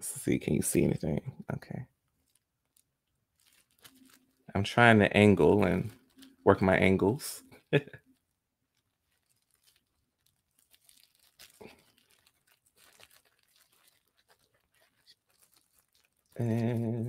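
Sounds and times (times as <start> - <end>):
plastic bag and paper crinkling: 2.2 - 17.0.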